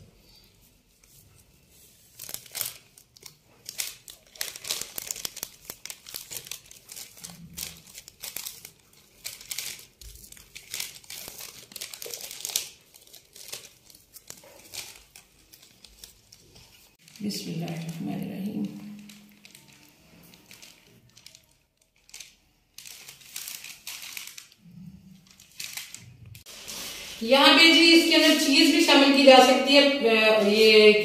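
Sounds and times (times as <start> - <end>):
plastic sheet crinkling: 0.2 - 31.0.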